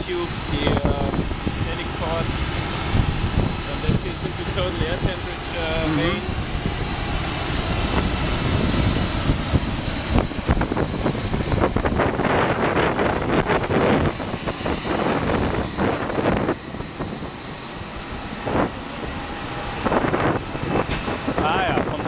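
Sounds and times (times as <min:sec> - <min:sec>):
airport machinery drone: 0:00.0 - 0:22.0
wind gusting on microphone: 0:00.0 - 0:22.0.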